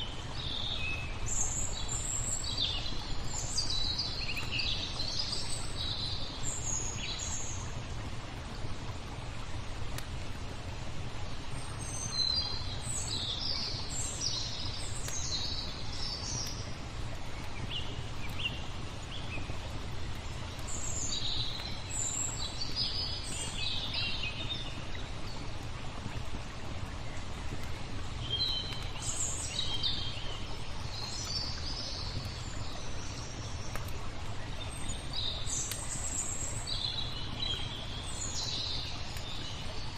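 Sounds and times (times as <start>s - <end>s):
small birds chirping: 0.0s - 8.0s, 11.2s - 39.9s
flowing water: 0.0s - 39.9s.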